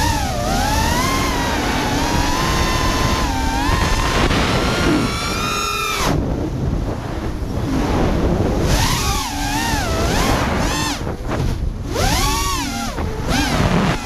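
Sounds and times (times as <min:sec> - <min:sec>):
drone motor whine: 0:00.0 - 0:14.0
wind rushing over microphone: 0:00.0 - 0:14.0.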